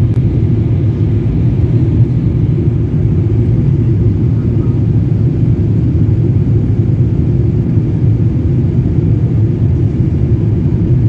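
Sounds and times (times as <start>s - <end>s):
aeroplane engine rumble: 0.0s - 11.0s.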